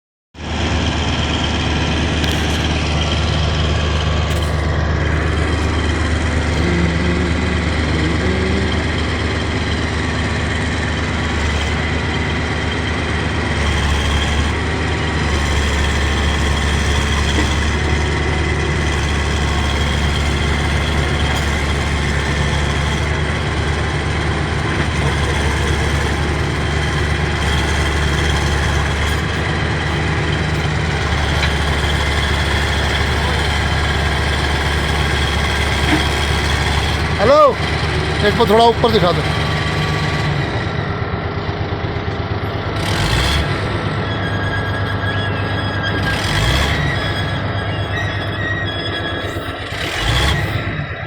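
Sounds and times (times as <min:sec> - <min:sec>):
engine deep drone: 0:00.4 - 0:51.0.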